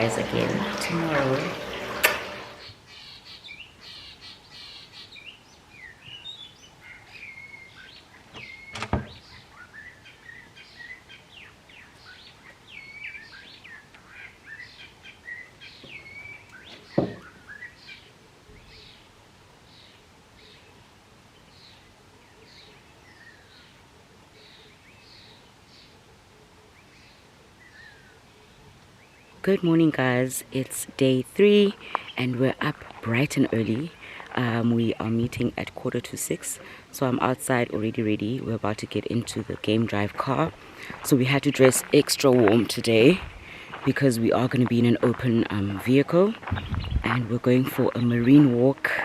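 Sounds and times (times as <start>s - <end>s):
birds chirping: 0.0s - 19.1s, 26.8s - 49.0s.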